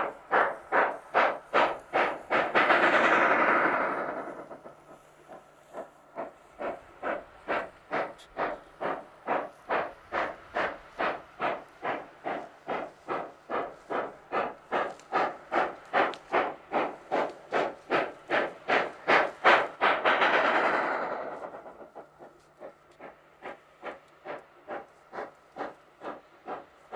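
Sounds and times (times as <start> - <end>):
steam hissing: 0.0 - 26.9
steam locomotive chuffing: 0.0 - 26.9.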